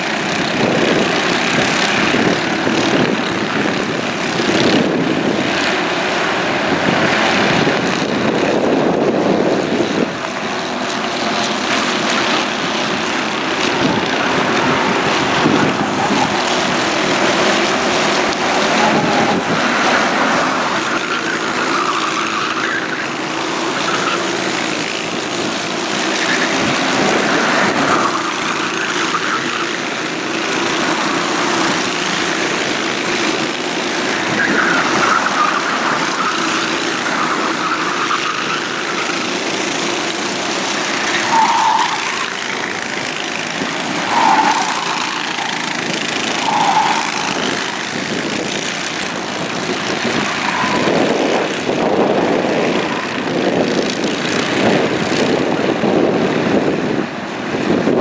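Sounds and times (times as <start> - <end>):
racing kart engines buzzing: 0.0 - 58.0.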